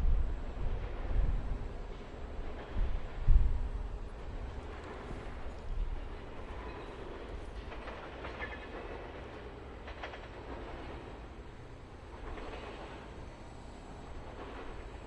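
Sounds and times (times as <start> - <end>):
rail equipment rumbling on track: 0.0 - 15.0.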